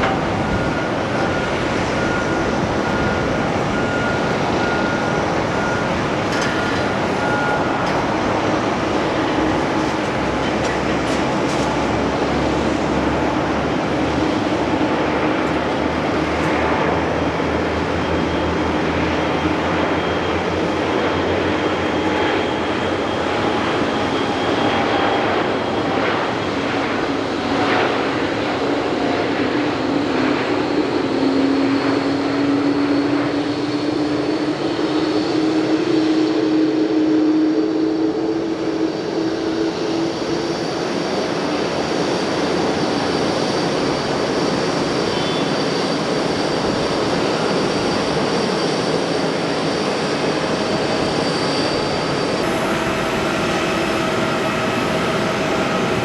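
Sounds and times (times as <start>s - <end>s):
jet airliner engines roaring: 0.0s - 56.0s.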